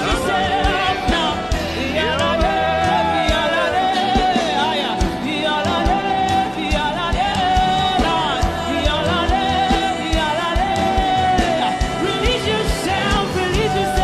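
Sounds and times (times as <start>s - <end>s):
gospel worship music: 0.0s - 14.0s
steady drum beat: 0.0s - 14.0s
sustained wordless melody line: 0.0s - 14.0s.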